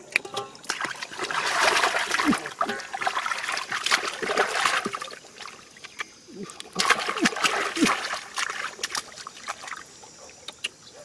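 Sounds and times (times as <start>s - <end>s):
splashing in muddy water: 0.3s - 10.0s.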